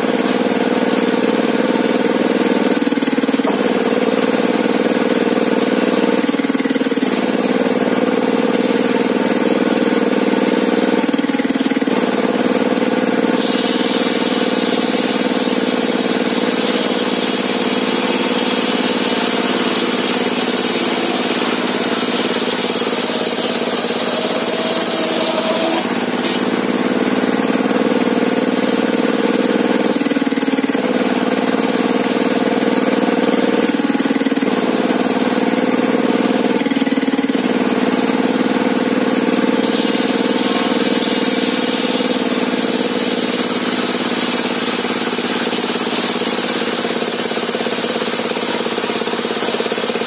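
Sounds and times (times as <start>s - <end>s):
table saw engine running: 0.0s - 50.0s.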